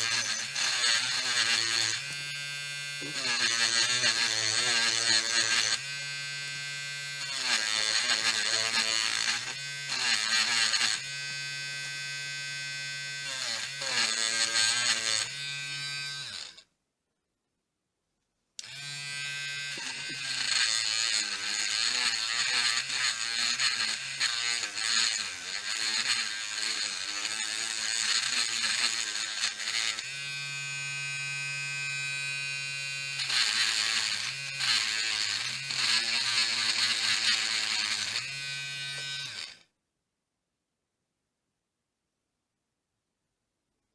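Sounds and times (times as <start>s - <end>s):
wire brush grinder whining: 0.0s - 16.6s, 18.6s - 39.7s.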